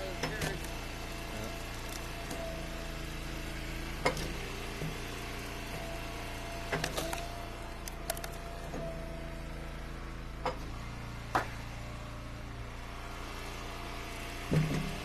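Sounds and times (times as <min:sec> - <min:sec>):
wood splitter engine running: 0:00.0 - 0:15.0.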